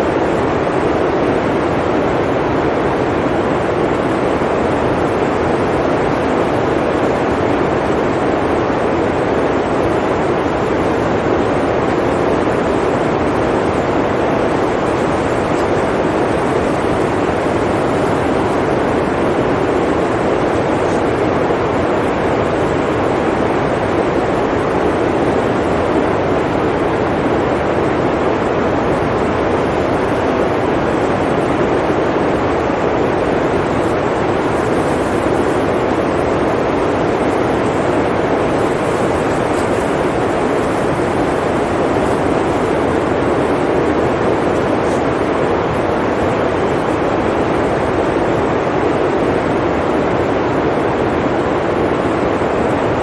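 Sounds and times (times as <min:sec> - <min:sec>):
blizzard wind rushing: 0:00.0 - 0:53.0.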